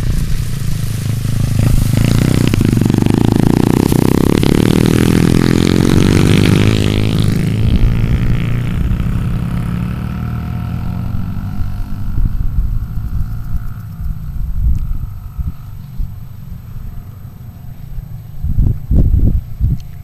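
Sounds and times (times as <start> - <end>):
dirt bike engine passing: 0.0 - 19.6.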